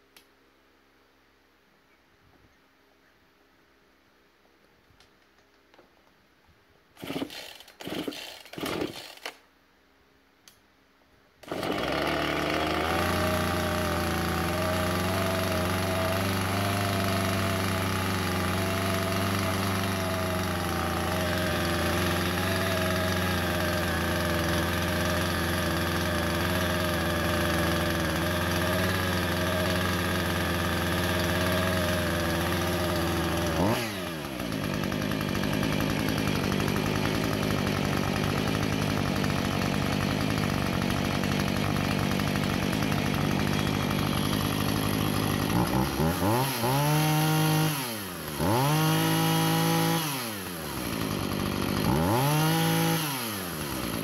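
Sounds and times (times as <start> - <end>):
chainsaw idling: 7.0 - 9.4, 11.4 - 54.0
chainsaw throttle blip: 7.0 - 9.4, 11.4 - 54.0.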